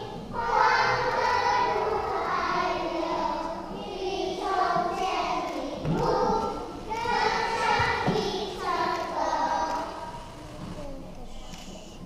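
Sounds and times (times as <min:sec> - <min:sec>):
children singing together: 0:00.0 - 0:11.7.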